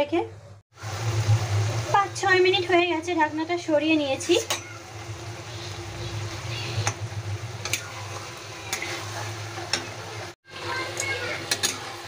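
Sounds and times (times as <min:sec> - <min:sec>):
curry sizzling: 0:00.7 - 0:12.0.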